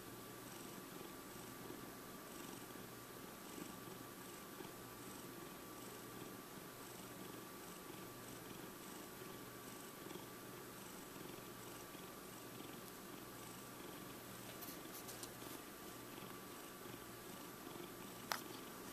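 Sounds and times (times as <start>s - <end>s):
cat purring: 0.4s - 18.9s.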